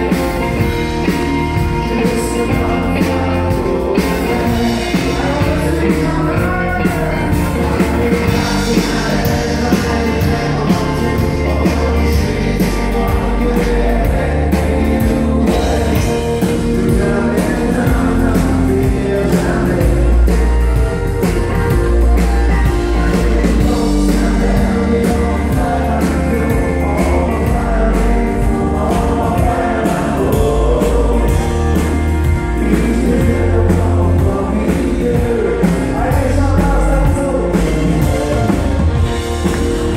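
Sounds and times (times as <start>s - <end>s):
acoustic and electric guitars: 0.0s - 39.9s
drums: 0.0s - 39.9s
man singing: 0.0s - 39.9s.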